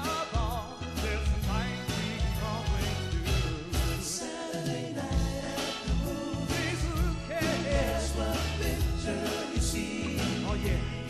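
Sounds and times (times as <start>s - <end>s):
bass and drums: 0.0s - 4.2s, 5.0s - 11.0s
man singing: 0.0s - 11.0s.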